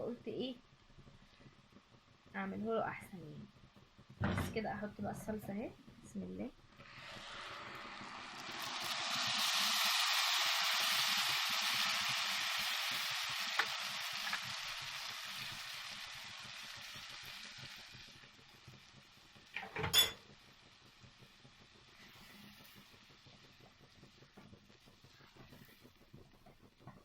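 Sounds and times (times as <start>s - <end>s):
sauce sizzling in hot oil: 0.2s - 27.0s.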